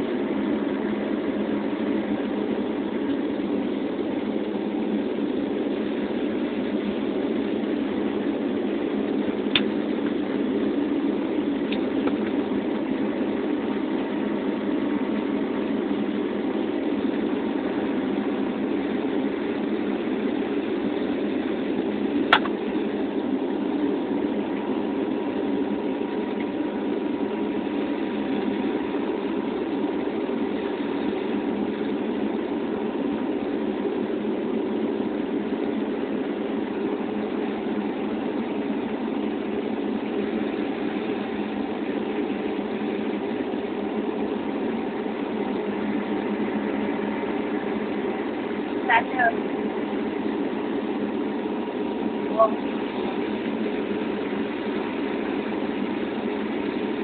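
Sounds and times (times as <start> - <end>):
airliner engine drone in cabin: 0.0 - 57.0.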